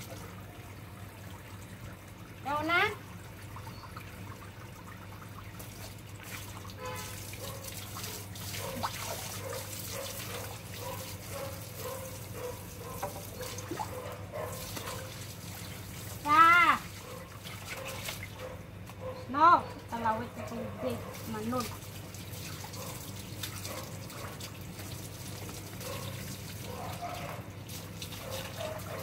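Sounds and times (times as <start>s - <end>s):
water running from hose: 0.0s - 18.6s, 20.0s - 29.0s.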